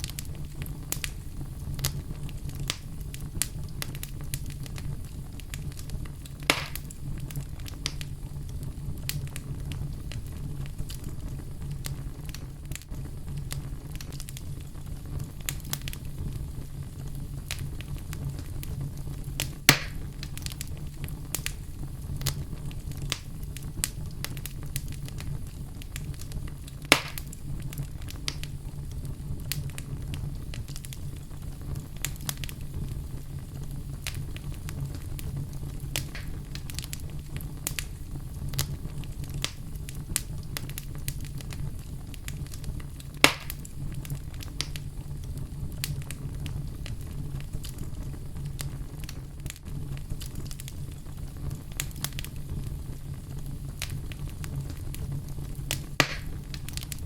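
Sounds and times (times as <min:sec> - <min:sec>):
burning wood popping: 0:00.0 - 0:57.0
fire crackling in fireplace: 0:00.0 - 0:57.0.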